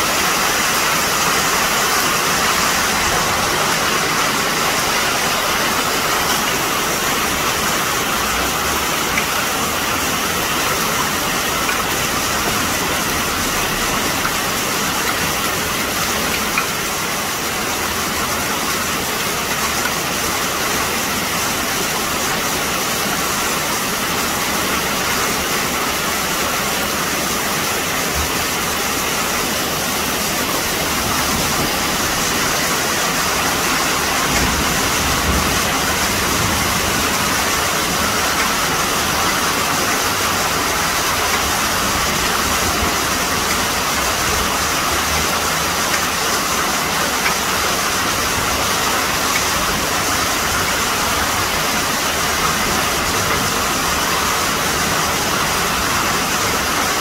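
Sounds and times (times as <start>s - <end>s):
heavy rain and hail on tiles: 0.0s - 57.0s.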